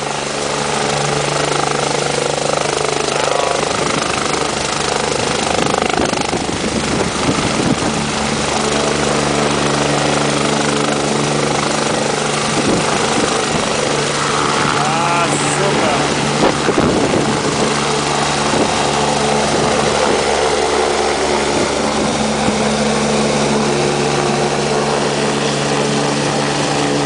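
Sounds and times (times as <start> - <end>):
helicopter turbine and rotor: 0.0 - 27.0.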